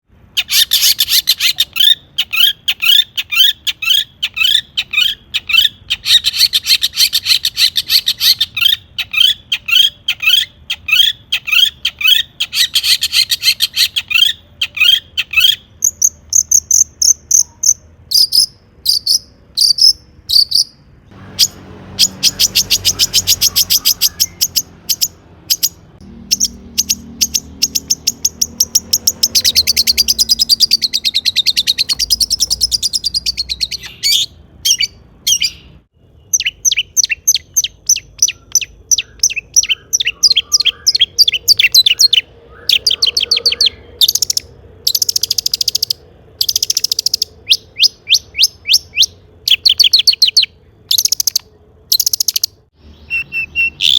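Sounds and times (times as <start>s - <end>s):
bird singing sharp repeated notes: 0.1s - 53.9s.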